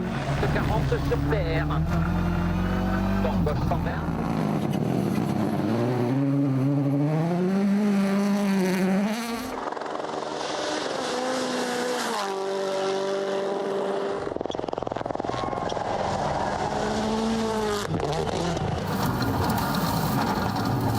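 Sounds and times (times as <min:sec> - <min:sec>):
rally car engines at full throttle: 0:00.0 - 0:20.9.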